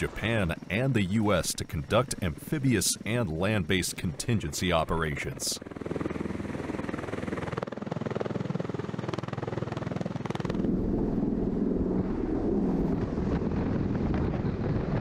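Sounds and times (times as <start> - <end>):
helicopter rotor and turbine noise: 0.0 - 15.0.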